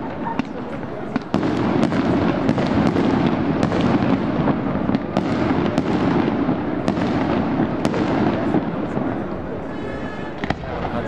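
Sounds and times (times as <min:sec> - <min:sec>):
sharp firework cracks: 0:00.0 - 0:09.6, 0:10.3 - 0:11.0
fireworks rumbling: 0:00.0 - 0:11.0.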